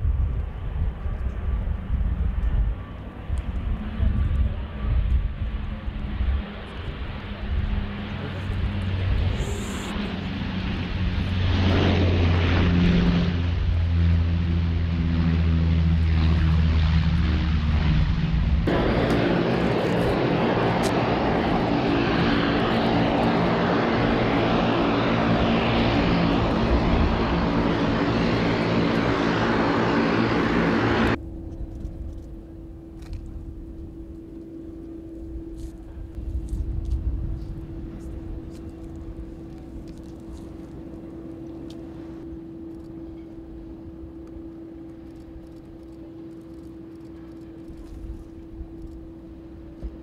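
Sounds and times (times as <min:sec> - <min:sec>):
turboprop engine whine: 0:00.0 - 0:50.0
turboprop engines droning: 0:00.0 - 0:50.0.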